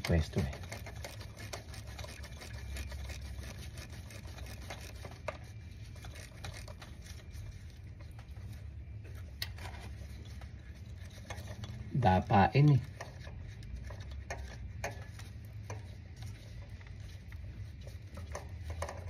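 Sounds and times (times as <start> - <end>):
gloved hand scraping and rubbing: 0.0 - 19.0.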